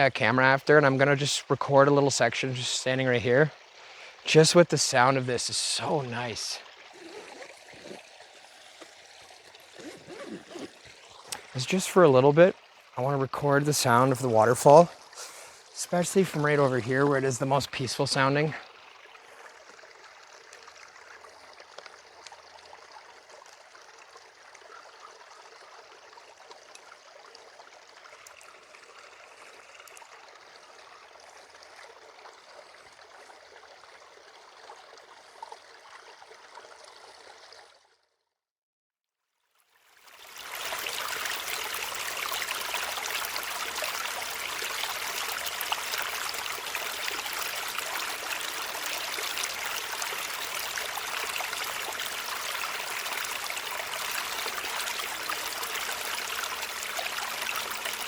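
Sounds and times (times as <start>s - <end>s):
water trickling and splashing: 0.0s - 38.2s, 39.4s - 58.0s.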